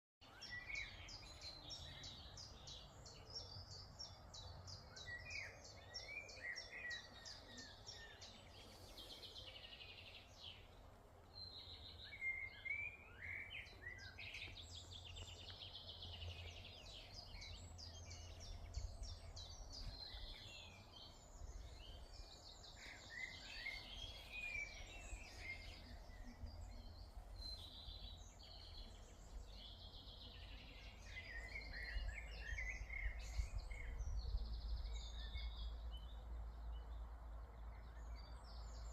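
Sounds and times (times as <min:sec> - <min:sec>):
songbirds singing and calling: 0:00.2 - 0:38.9.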